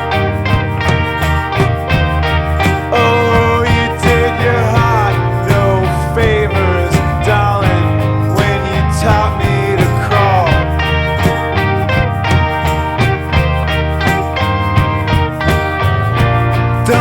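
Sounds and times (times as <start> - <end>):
bass line: 0.0 - 17.0
drums: 0.0 - 17.0
electric guitar lead: 0.0 - 17.0.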